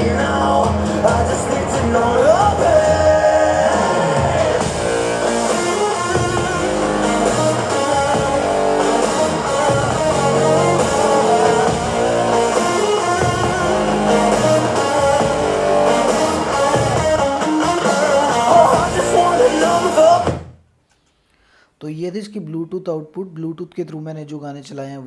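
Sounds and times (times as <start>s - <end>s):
bass: 0.0s - 20.5s
pop-rock song on speaker: 0.0s - 20.5s.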